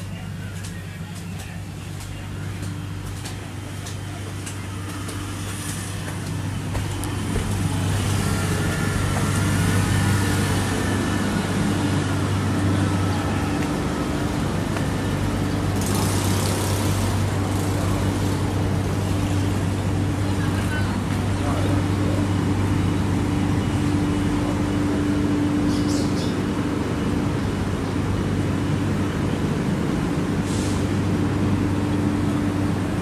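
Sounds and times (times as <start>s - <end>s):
cars passing: 0.0s - 33.0s
constant low hum: 0.0s - 33.0s.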